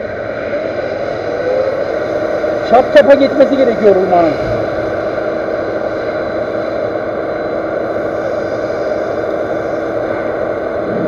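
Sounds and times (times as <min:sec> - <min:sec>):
lathe whirring: 0:00.0 - 0:11.0.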